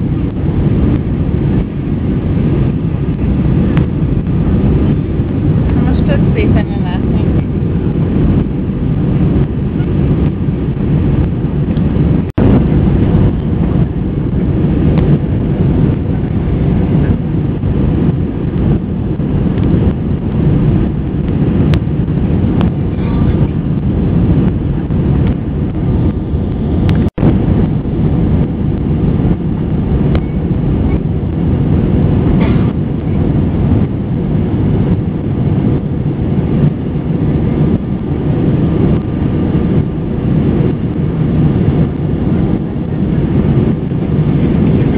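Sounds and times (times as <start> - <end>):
aircraft engines roaring: 0.0 - 44.9
rushing airflow: 0.0 - 44.9.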